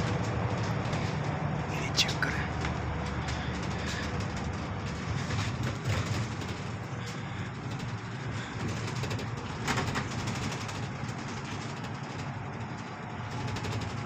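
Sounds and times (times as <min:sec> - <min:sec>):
bus engine hum: 0:00.0 - 0:14.0
road noise: 0:00.0 - 0:14.0.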